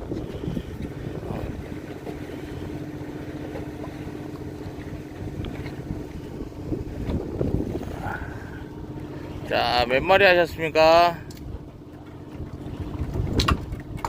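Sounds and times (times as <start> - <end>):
boat machinery rumble: 0.0 - 14.0.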